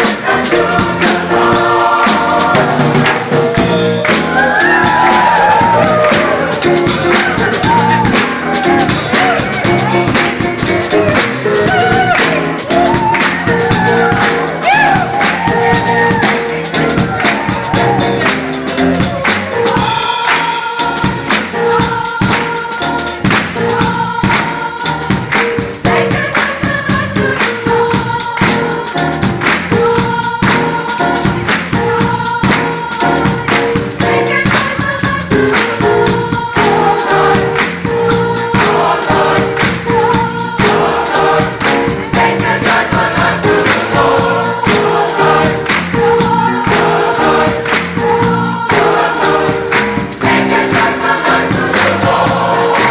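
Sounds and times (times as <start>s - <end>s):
drums beating: 0.0s - 52.9s
gospel choir singing: 0.0s - 52.9s
live band: 0.0s - 52.9s.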